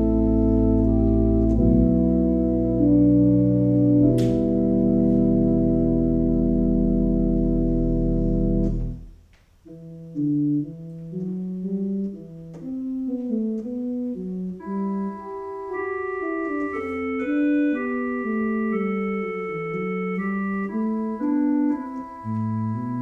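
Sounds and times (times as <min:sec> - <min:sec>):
organ playing slow melody: 0:00.0 - 0:23.0.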